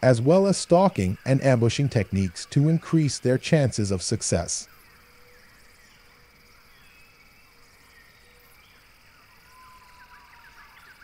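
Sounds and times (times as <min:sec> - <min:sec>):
small chirping calls: 0:00.0 - 0:11.0.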